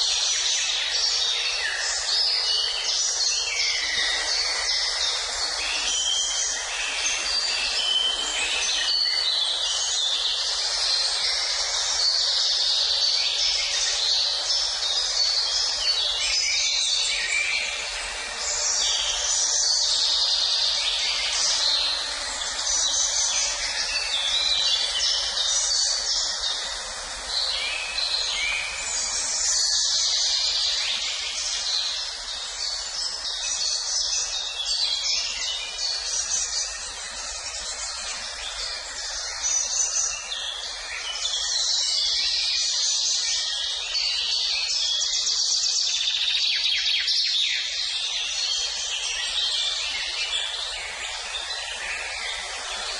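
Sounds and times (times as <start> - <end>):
background hiss: 0.0 - 52.9
birds singing and chirping: 0.0 - 52.9.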